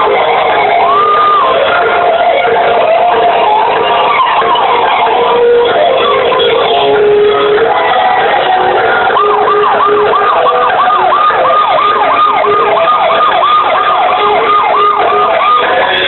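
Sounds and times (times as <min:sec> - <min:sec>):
siren yelping: 0:00.0 - 0:16.0.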